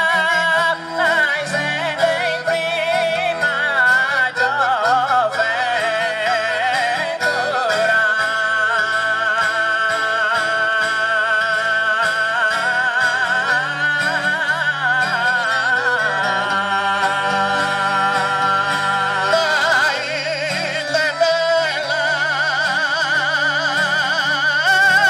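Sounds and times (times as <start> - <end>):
accordion: 0.0 - 25.0
guitar: 0.0 - 25.0
man singing with vibrato: 0.0 - 25.0.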